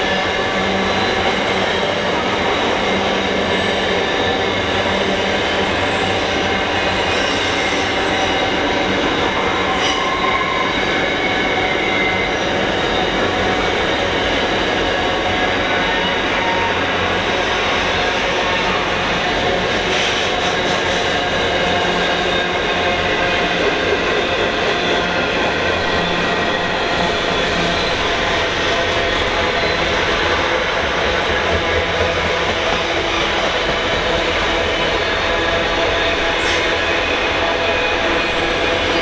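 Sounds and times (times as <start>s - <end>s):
freight train rumble: 0.0s - 39.0s
train wheels squealing on rails: 0.0s - 39.0s.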